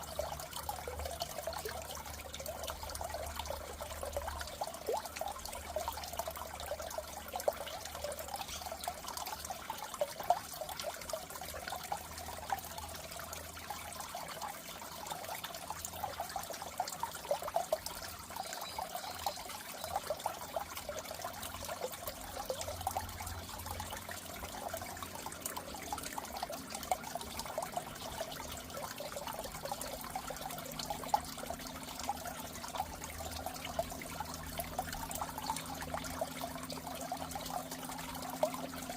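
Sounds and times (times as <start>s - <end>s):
water trickling and bubbling: 0.0s - 38.9s.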